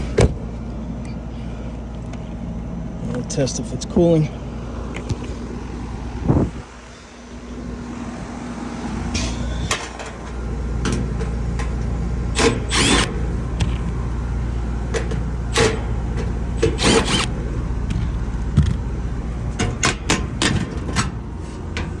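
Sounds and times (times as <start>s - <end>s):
heat pump compressor hum: 0.0s - 22.0s.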